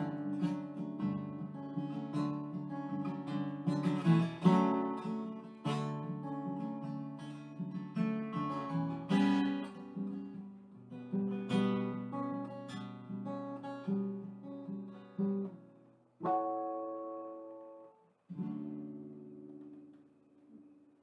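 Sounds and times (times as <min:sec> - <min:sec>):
acoustic guitar picking and strumming: 0:00.0 - 0:20.8.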